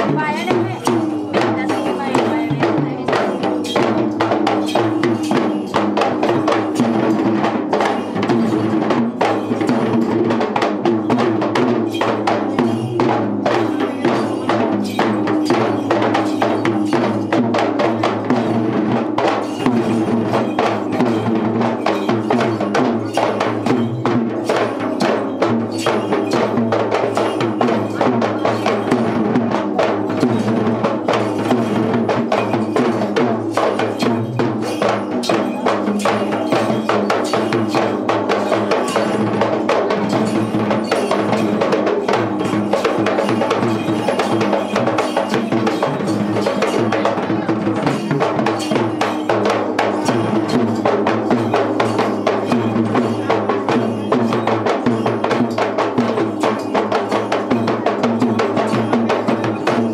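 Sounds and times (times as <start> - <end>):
hand drums beaten rapidly: 0.0 - 59.9.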